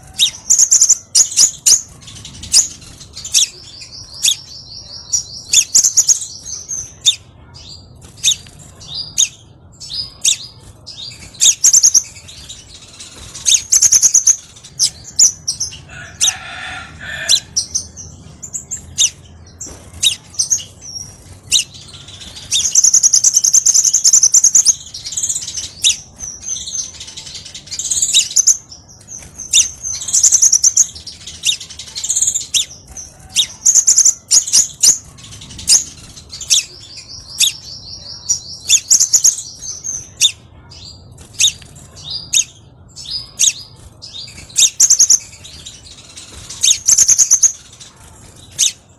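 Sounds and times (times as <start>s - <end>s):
bird chirps and trills: 0.0s - 48.9s.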